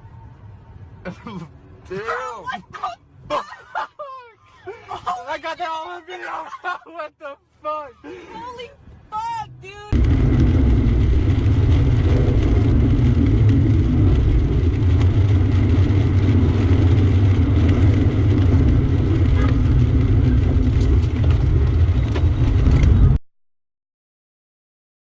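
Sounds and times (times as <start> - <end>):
vehicle engine rumble: 0.0 - 5.4, 7.5 - 23.2.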